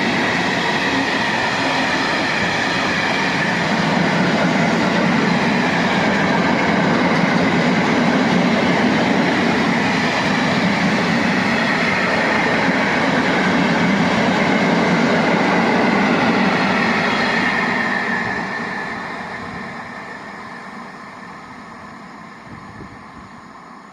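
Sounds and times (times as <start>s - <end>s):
freight train rumbling on rails: 0.0s - 23.9s.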